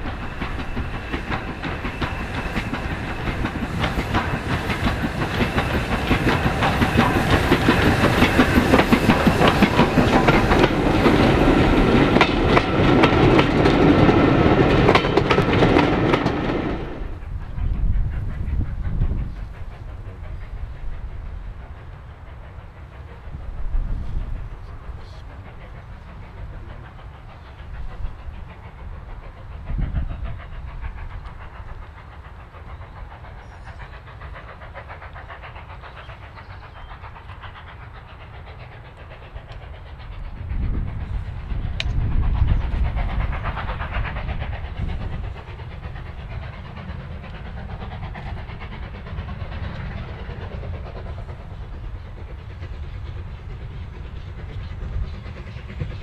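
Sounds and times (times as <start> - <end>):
rail rumble: 0.0 - 56.0
steam hiss: 0.0 - 56.0
steam locomotive chuffing: 0.0 - 56.0.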